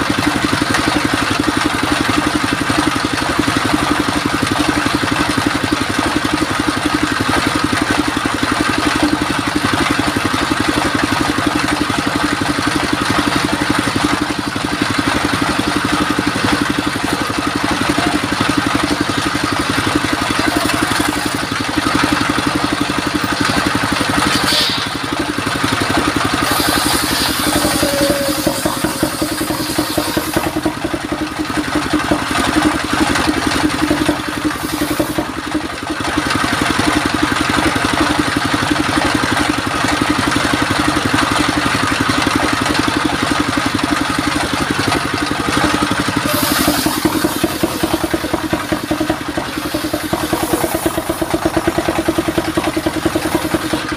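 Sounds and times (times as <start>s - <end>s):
stationary engine running: 0.0s - 53.9s
circular saw cutting log: 8.4s - 40.1s, 40.8s - 53.9s.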